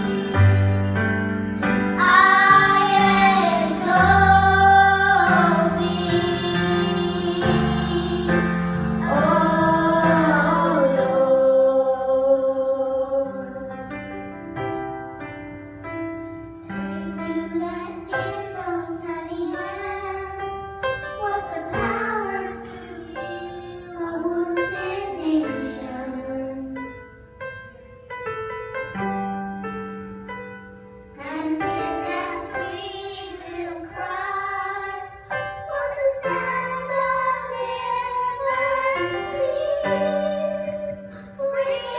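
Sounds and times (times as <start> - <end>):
piano accompaniment: 0.0 - 41.9.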